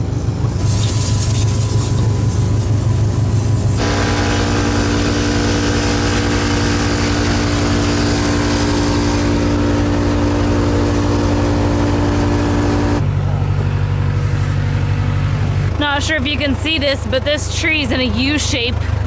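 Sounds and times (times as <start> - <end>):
backhoe engine running: 0.0 - 19.0.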